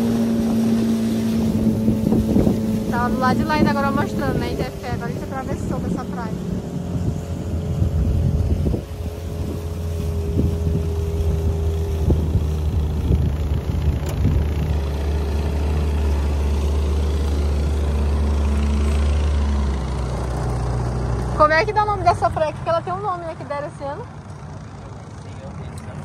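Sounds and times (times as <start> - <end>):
outboard motor droning: 0.0 - 26.0
wind: 0.0 - 26.0.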